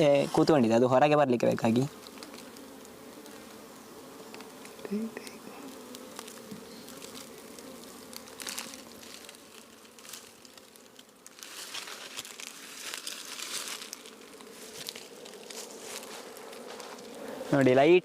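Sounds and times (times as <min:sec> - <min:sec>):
bees buzzing faintly: 0:00.0 - 0:18.0
rustling and crackling: 0:01.5 - 0:17.9.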